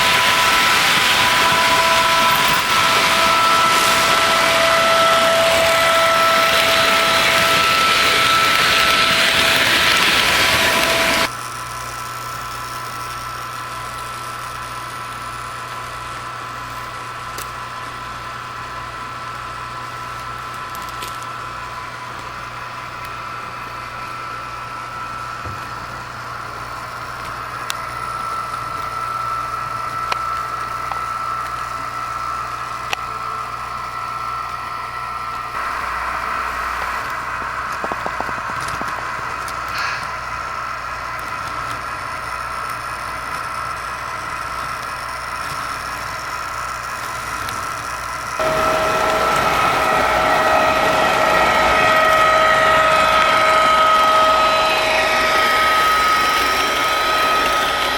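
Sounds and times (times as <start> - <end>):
model train engine drone: 0.0 - 57.9.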